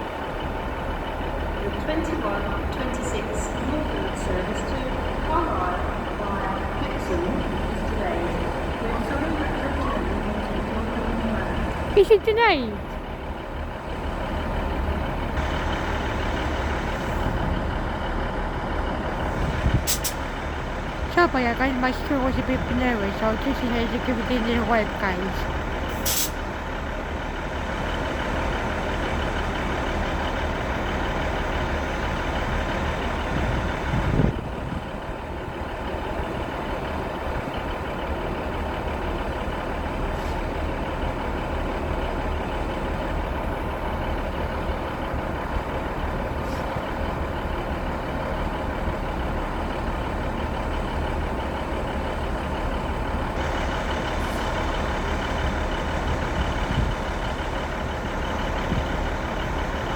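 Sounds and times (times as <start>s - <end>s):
train engine idling: 0.0s - 59.9s.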